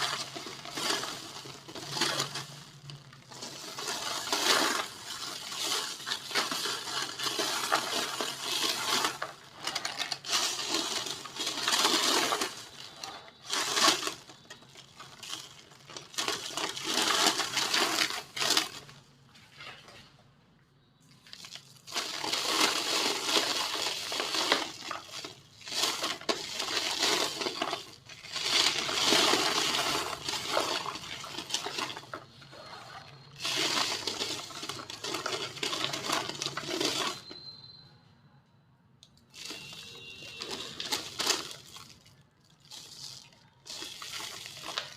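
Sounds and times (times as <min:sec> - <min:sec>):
cement bowls being crushed: 0:00.0 - 0:20.0, 0:21.1 - 0:37.7, 0:39.2 - 0:44.9.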